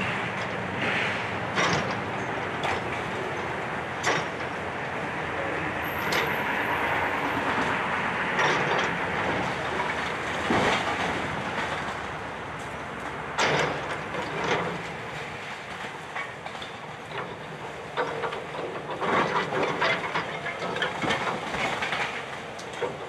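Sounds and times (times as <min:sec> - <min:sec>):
excavator running: 0:00.0 - 0:23.0.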